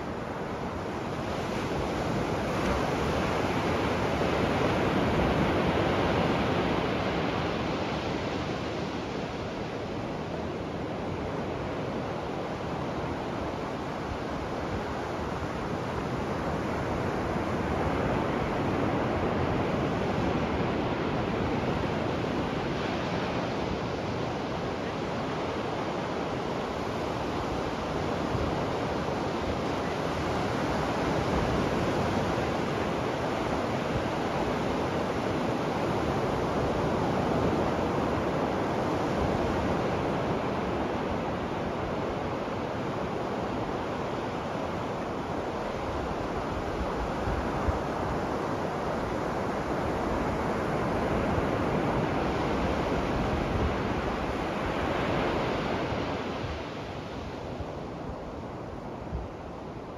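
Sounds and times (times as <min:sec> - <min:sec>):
waves breaking on shore: 0:00.0 - 0:59.9.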